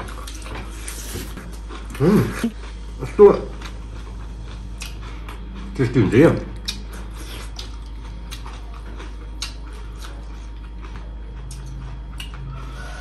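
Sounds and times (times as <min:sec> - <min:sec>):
wet chewing clicks and smacks: 0:00.0 - 0:02.0, 0:03.5 - 0:12.5
steady low hum: 0:00.0 - 0:13.0.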